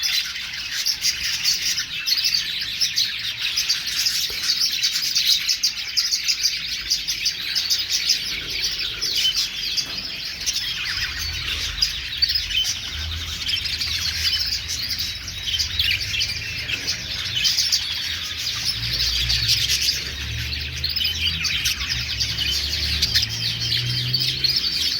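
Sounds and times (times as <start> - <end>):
budgerigars chattering: 0.0 - 24.9.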